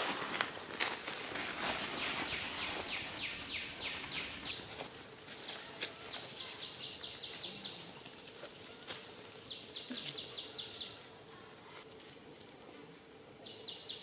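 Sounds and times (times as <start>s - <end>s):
faint forest background noise: 0.0s - 14.0s.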